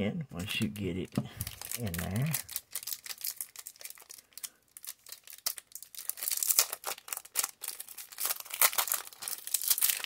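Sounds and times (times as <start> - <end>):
plastic wrap crinkling: 0.5 - 10.0.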